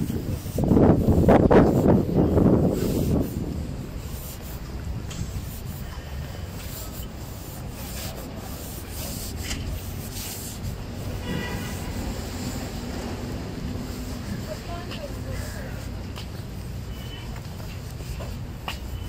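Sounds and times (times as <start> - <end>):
low street rumble: 0.0 - 19.0
rubbing noise: 0.0 - 19.0.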